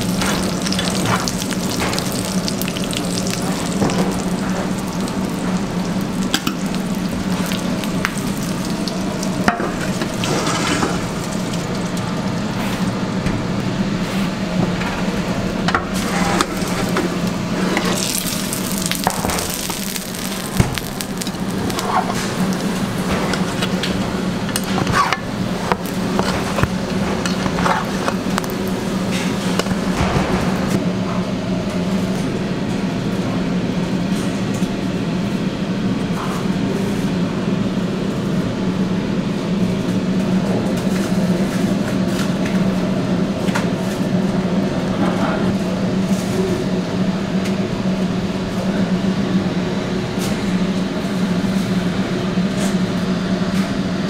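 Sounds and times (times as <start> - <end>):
kitchen equipment hum: 0.0 - 54.0.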